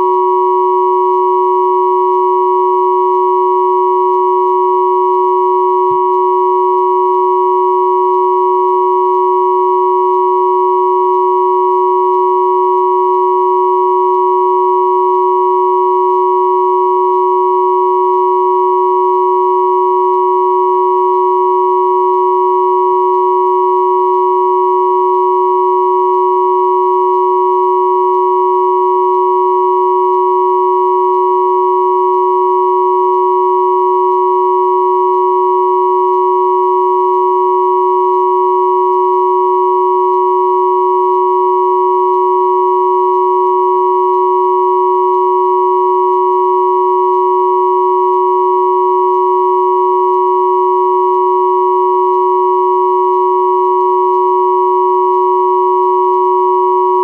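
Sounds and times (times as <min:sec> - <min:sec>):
electronic pure tones hum: 0:00.0 - 0:57.0.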